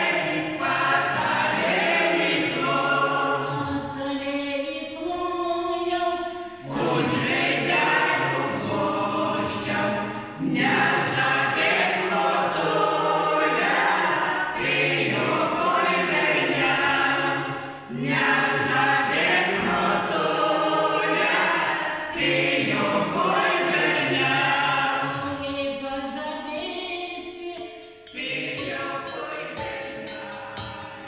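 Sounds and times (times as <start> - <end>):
mixed choir singing folk song: 0.0 - 31.0.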